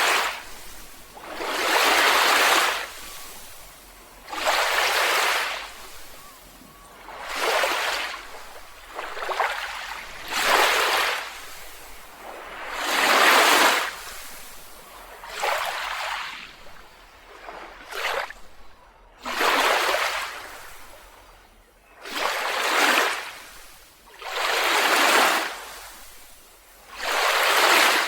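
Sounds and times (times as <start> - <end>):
ocean waves washing onto beach: 0.0 - 28.0.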